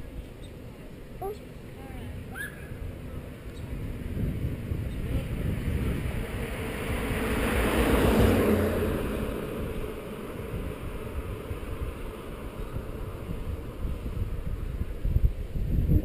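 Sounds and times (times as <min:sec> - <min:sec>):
bicycle rolling low rumble: 0:00.0 - 0:16.0
wind rushing over microphone: 0:00.0 - 0:16.0.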